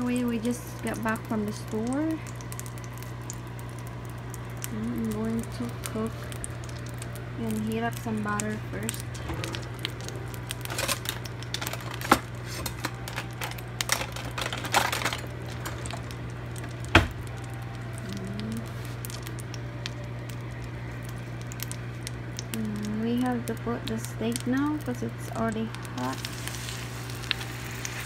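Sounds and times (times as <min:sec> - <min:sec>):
butter crackling in a skillet: 0:00.0 - 0:28.0
low hum: 0:00.0 - 0:28.0.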